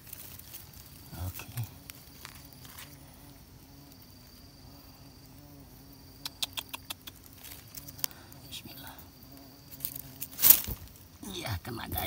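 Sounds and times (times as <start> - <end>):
faint insect noise: 0.0 - 12.0.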